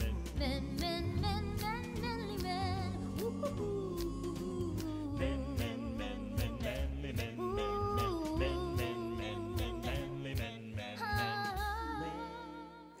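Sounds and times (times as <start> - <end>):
music with singing over a beat: 0.0 - 13.0.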